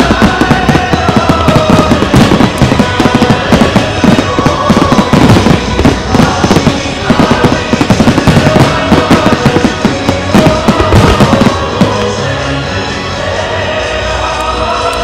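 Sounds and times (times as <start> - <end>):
fireworks bursting with crackle: 0.0 - 15.0
loud music with held tones: 0.0 - 15.0.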